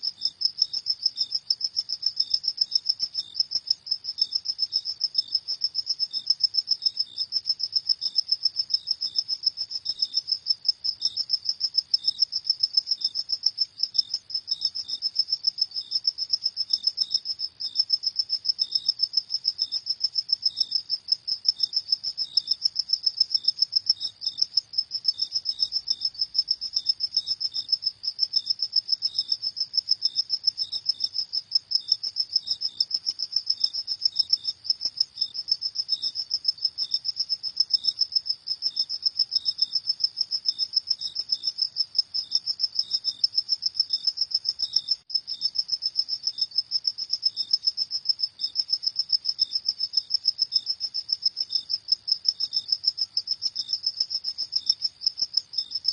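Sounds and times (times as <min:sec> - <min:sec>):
cricket rapid chirping: 0:00.0 - 0:55.9
fainter cricket chirping: 0:00.0 - 0:55.9.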